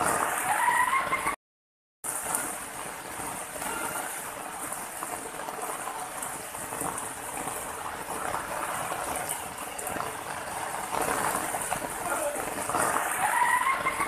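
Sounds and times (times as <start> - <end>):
water rushing over rocks: 2.1 - 14.0.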